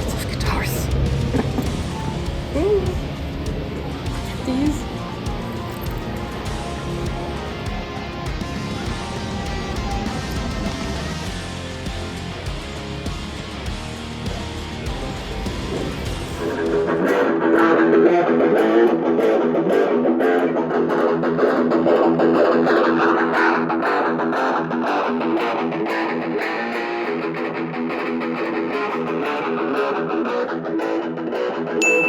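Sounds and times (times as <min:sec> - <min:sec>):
electric guitar music with beat: 0:00.0 - 0:32.0.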